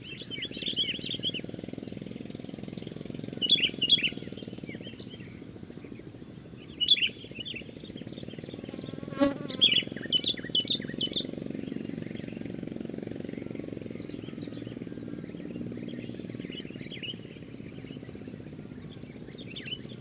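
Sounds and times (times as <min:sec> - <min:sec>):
steady low insect buzz: 0:00.0 - 0:20.0.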